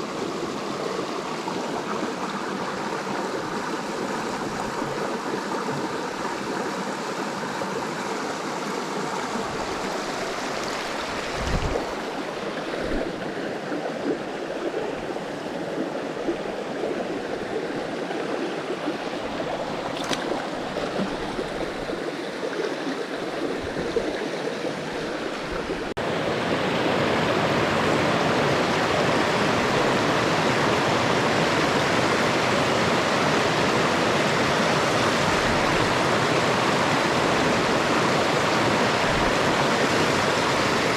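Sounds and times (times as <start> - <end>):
creek flowing over rocks: 0.0 - 40.9.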